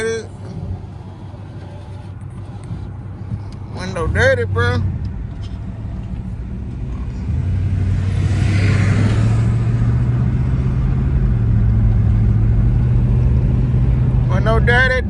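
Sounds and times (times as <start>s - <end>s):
car engine drone in cabin: 0.0s - 15.0s.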